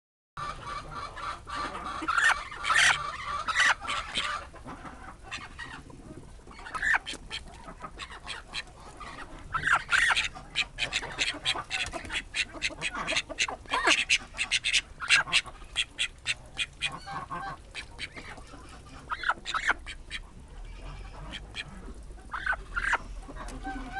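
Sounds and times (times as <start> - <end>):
chickens clucking: 0.4 - 23.9.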